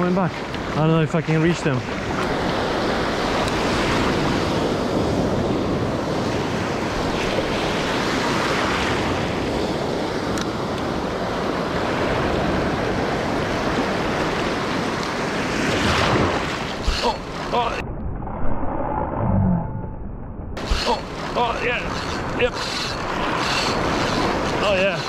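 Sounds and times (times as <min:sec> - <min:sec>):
ocean surf breaking: 0:00.0 - 0:17.8, 0:20.6 - 0:25.0
wind on microphone: 0:01.8 - 0:25.0.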